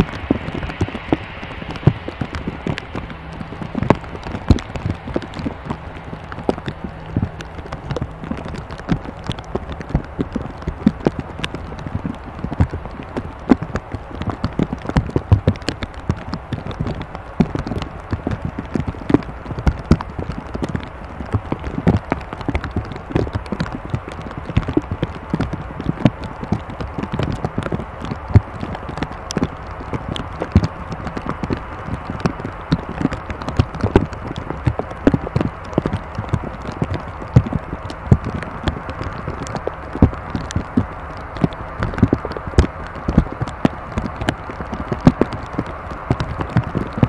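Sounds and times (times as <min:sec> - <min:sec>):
heavy rain drumming on aircraft: 0:00.0 - 0:47.0
low steady hum: 0:00.0 - 0:47.0.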